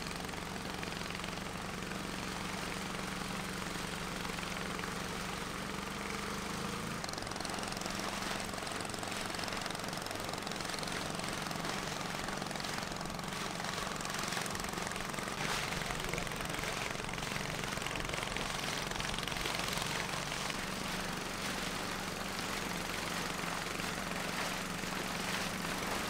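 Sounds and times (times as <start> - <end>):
boat motor running: 0.0 - 26.0
wind: 0.0 - 26.0
rushing water: 2.4 - 26.0.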